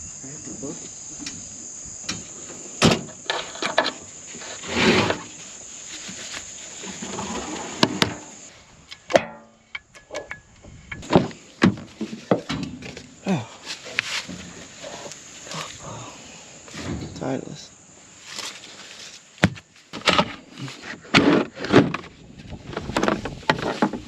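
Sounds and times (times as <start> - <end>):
high insect buzz: 0.0 - 20.8.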